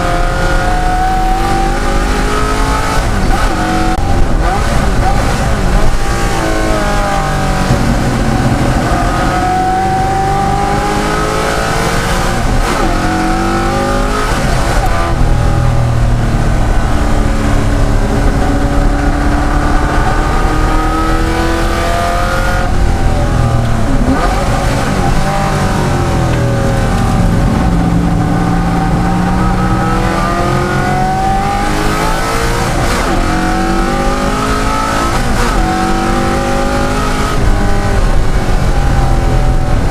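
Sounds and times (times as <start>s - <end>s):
racing engine accelerating: 0.0s - 39.9s.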